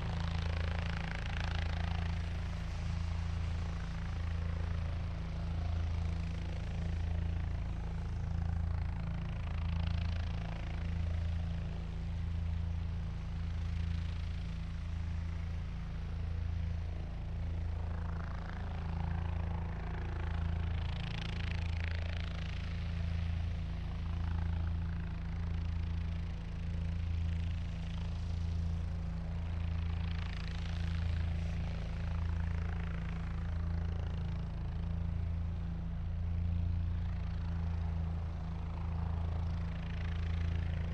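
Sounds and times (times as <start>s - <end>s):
helicopter rotor throb: 0.0s - 40.9s.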